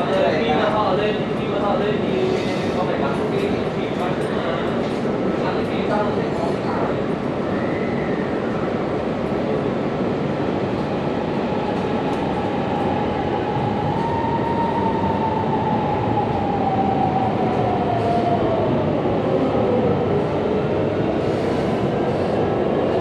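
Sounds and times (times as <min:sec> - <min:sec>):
train rolling rumble: 0:00.0 - 0:23.0.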